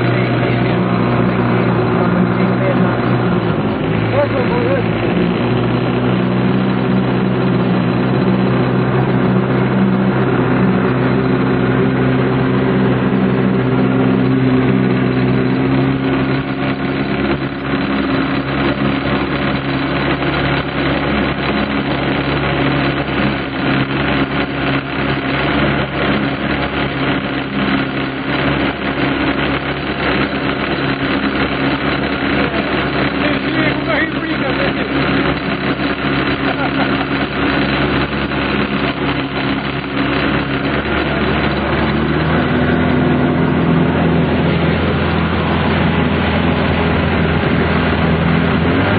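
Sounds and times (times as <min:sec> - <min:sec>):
engine running: 0:00.0 - 0:48.9.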